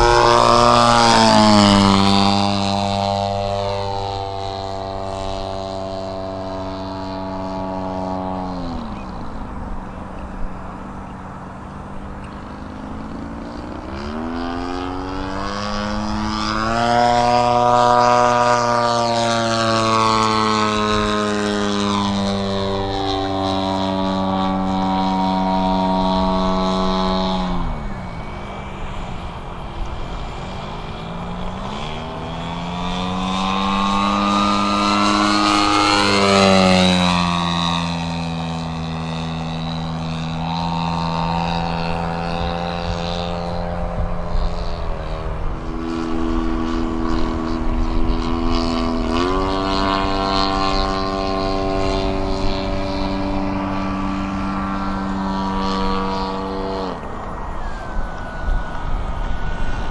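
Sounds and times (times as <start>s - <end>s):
model plane engine and propeller drone: 0.0s - 59.9s.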